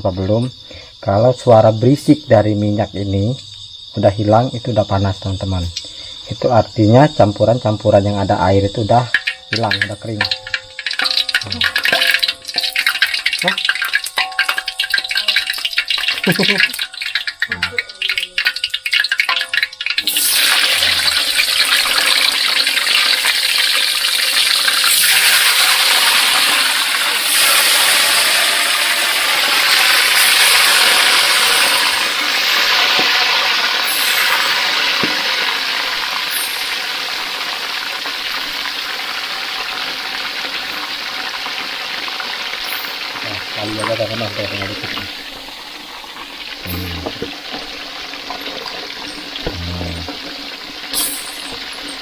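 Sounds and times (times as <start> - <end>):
fish deep-frying in oil: 3.6 - 52.0.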